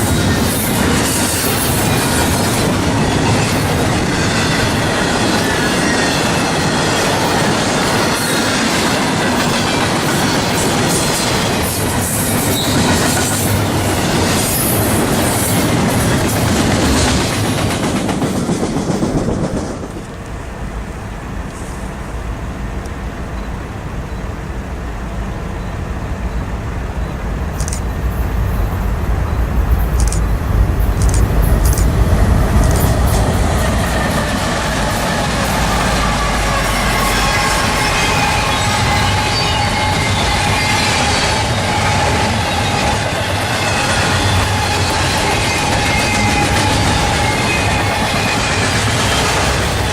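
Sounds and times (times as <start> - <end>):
freight train rumbling on rails: 0.0 - 49.9.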